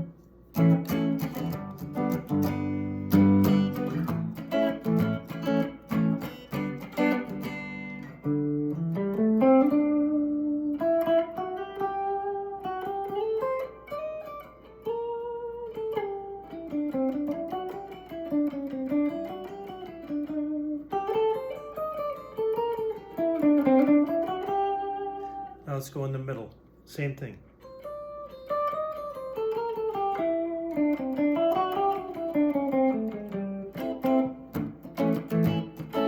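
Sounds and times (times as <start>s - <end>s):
electric guitar through amp: 0.0s - 25.6s, 27.6s - 36.0s.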